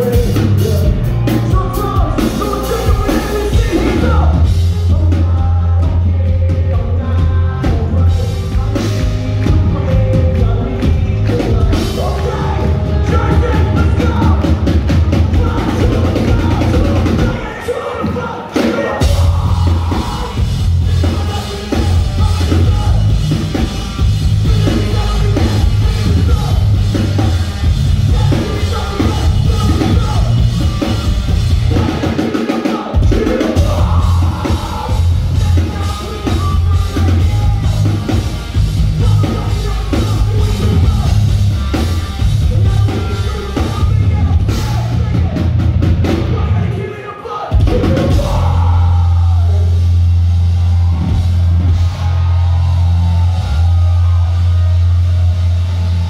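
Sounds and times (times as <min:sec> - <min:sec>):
heavy pulsing bass: 0:00.0 - 0:17.6, 0:19.0 - 0:32.2, 0:33.0 - 0:46.7, 0:47.6 - 0:56.0
drum kit: 0:00.0 - 0:46.9, 0:47.5 - 0:56.0
person singing and yelling: 0:00.0 - 0:49.9.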